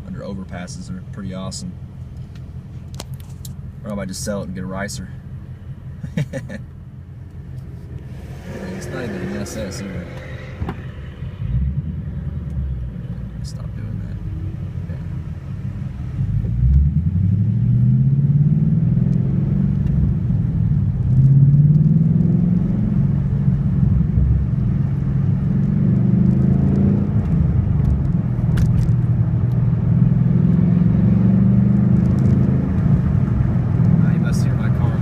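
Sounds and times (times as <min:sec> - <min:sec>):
car exhaust accelerating through gears: 0:05.0 - 0:35.0.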